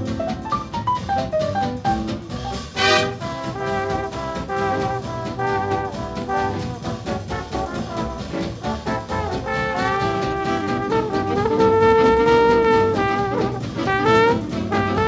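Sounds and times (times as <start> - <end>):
big band swing jazz: 0.0 - 15.0.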